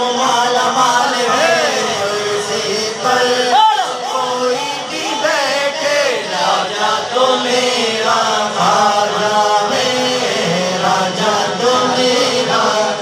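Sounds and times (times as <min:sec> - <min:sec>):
man singing into a microphone: 0:00.0 - 0:13.0
men singing a refrain: 0:00.0 - 0:13.0.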